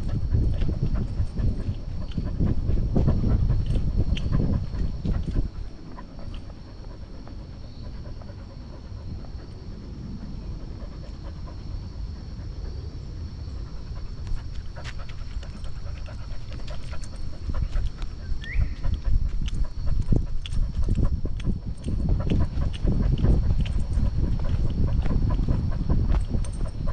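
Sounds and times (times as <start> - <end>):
dog panting: 0.0 - 26.9.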